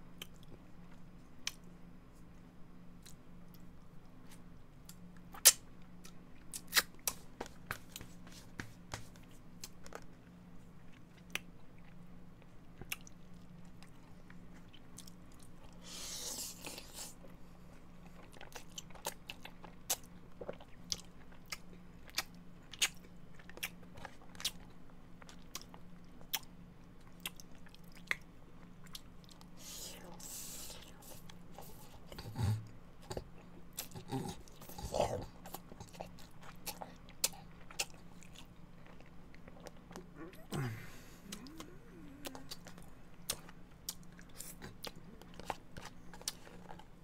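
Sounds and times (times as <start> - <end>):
person chewing with wet smacks: 0.1 - 15.8, 16.4 - 40.6, 41.2 - 47.0.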